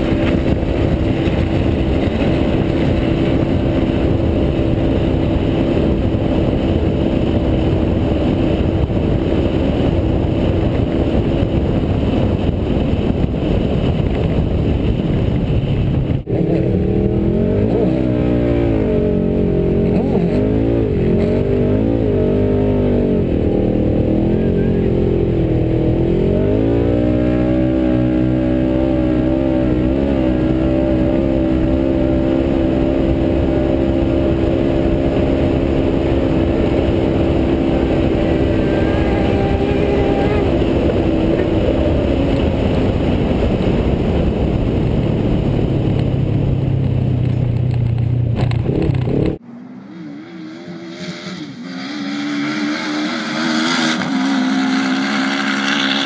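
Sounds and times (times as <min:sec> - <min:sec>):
engine under hard throttle: 0:00.0 - 0:56.0
rushing wind and sand: 0:00.0 - 0:56.0.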